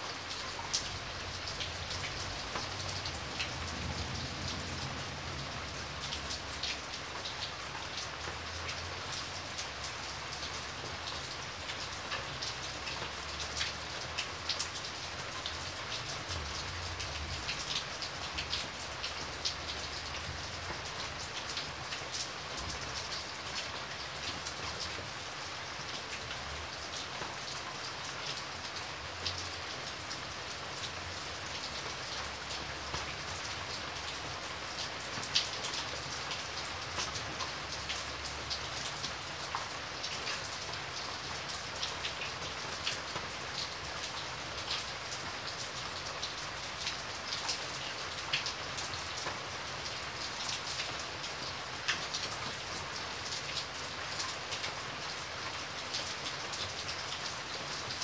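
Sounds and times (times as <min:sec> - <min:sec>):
rain drops on hard surface: 0:00.0 - 0:58.0.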